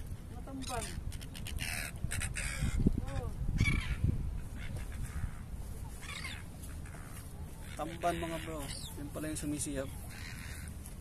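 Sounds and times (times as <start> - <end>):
wind rumble on microphone: 0.0 - 11.0
honking bird calls: 0.5 - 11.0.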